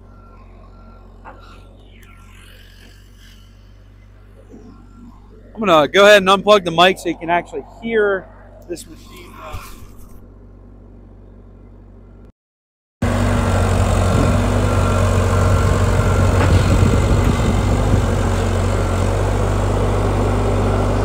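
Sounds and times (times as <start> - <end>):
diesel engine running: 0.0 - 12.3, 13.0 - 21.0.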